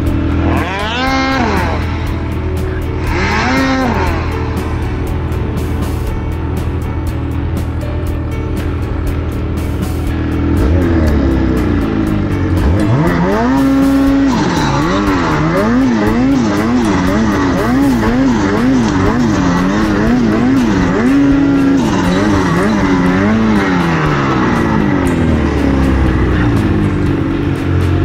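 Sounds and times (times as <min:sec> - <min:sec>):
snowmobile engine revving: 0:00.0 - 0:07.4, 0:10.1 - 0:28.0.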